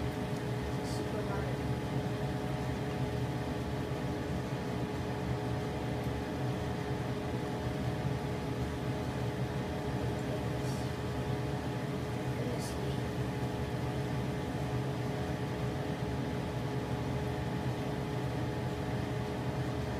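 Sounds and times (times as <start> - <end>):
range hood fan hum: 0.0 - 19.9.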